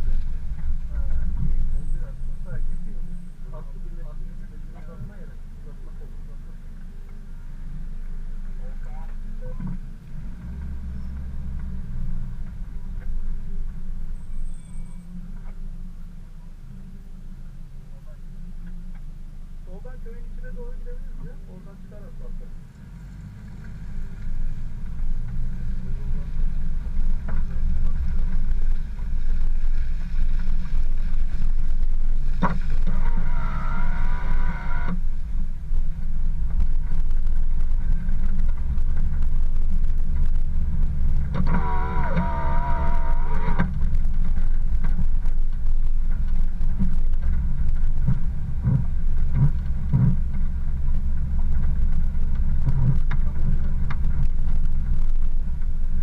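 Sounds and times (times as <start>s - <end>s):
off-road vehicle rumbling on gravel: 0.0s - 56.0s.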